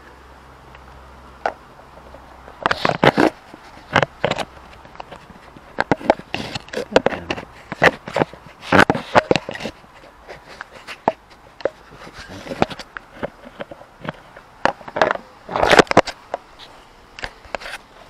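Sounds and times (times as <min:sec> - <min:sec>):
handling clicks and knocks: 0:00.7 - 0:17.8
rustling: 0:01.5 - 0:18.0.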